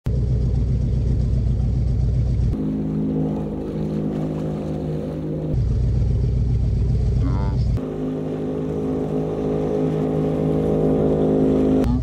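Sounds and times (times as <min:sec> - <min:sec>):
car engine rumbling on water: 0:00.1 - 0:12.0.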